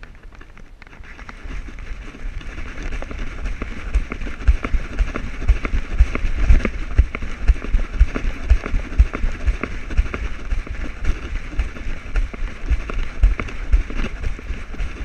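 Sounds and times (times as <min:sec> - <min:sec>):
harness clicks and rubbing: 0:00.3 - 0:15.0
low thumps from dog stride: 0:02.6 - 0:15.0.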